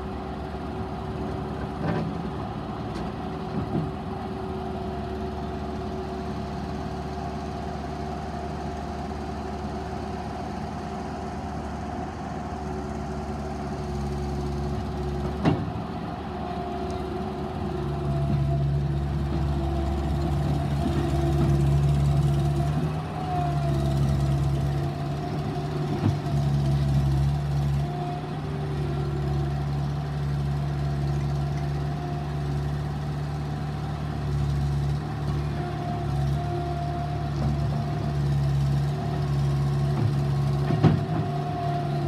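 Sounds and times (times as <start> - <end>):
diesel engine under changing load: 0.0 - 42.0.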